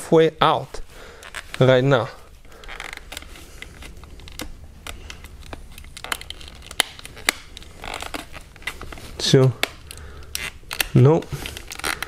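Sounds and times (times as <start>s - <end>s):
plastic clicks and creaks: 1.2s - 1.8s, 2.4s - 12.0s.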